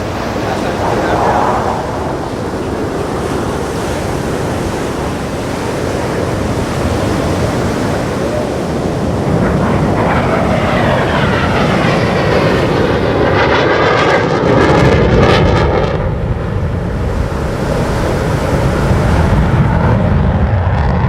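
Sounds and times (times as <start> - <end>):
jet roar passing: 0.0 - 21.0.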